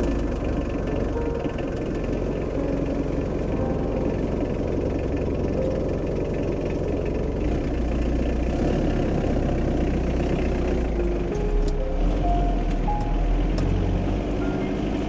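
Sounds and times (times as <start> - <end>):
vehicle engine idling with knocking: 0.0 - 15.0.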